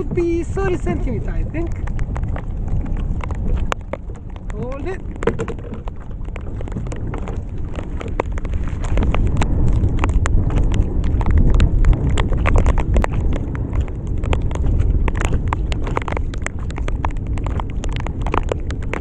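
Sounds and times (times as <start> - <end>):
raindrops tapping on kayak: 0.0 - 19.0
wind buffeting microphone: 0.0 - 19.0.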